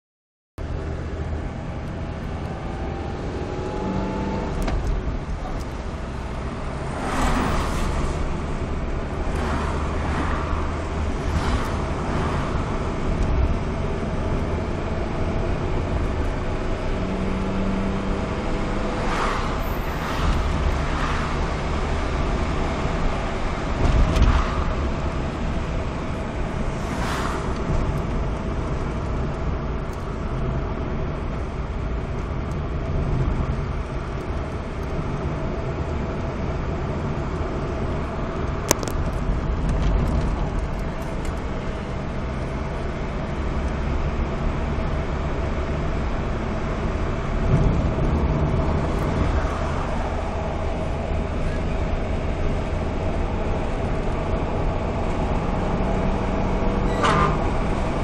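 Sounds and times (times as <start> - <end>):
car engine: 0.6 - 58.0
road noise: 0.6 - 58.0.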